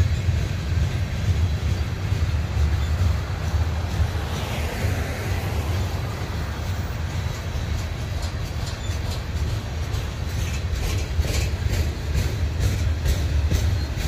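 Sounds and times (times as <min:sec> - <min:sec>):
freight train cars rumbling: 0:00.0 - 0:14.0
train wheels clicking: 0:00.0 - 0:14.0.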